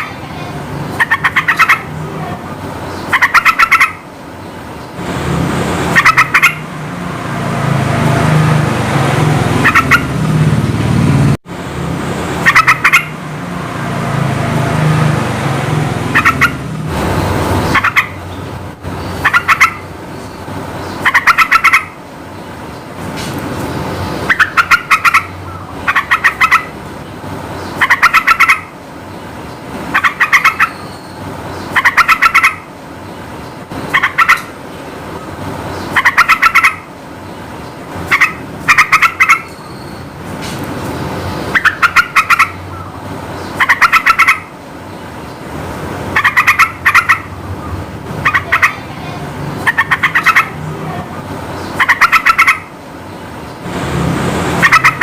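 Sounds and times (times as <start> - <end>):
bird chattering song: 0.0 - 5.0, 5.8 - 6.7, 9.6 - 10.2, 12.4 - 13.2, 16.1 - 40.2, 40.8 - 45.5, 46.1 - 53.6, 54.5 - 55.0.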